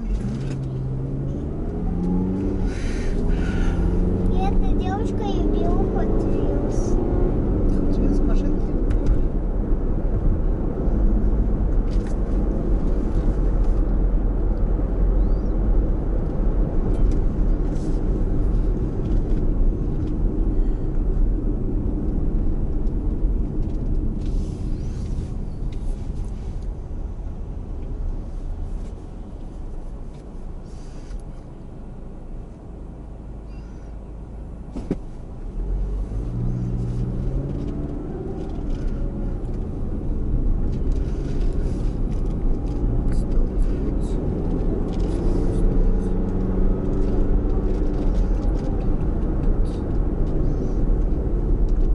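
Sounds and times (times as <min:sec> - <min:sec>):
car engine and tyres rumbling: 0:00.0 - 0:51.9.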